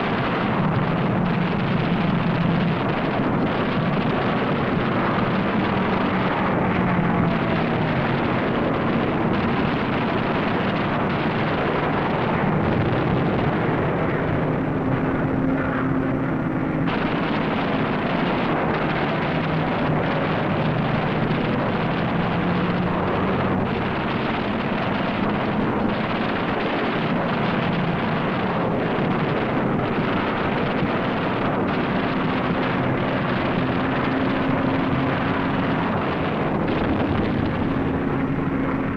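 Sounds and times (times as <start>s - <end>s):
piston aircraft engines droning: 0.0s - 38.9s.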